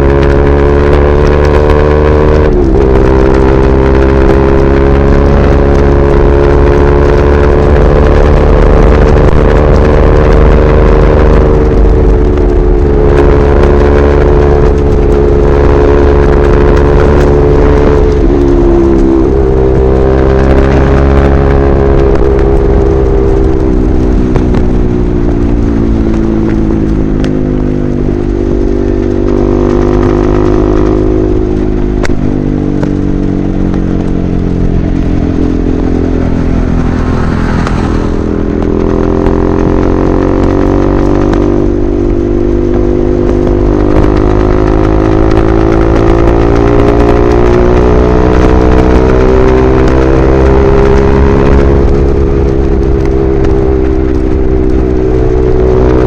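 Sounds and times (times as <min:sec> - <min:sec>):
motorcycle engine cruising: 0:00.0 - 0:56.0
wind rumble: 0:00.0 - 0:56.0.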